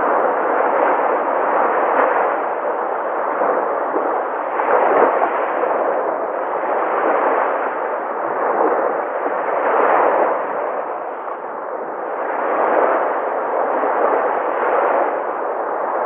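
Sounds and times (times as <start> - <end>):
sea waves breaking: 0.0 - 16.0.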